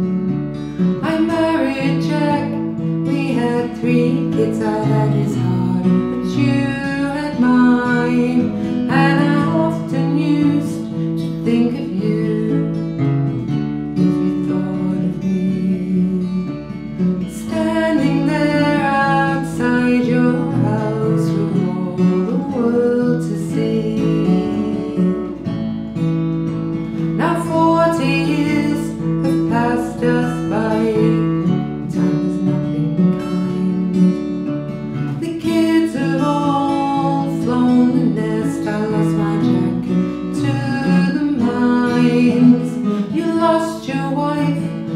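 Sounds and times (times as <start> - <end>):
acoustic guitars playing folk song: 0.0 - 44.9.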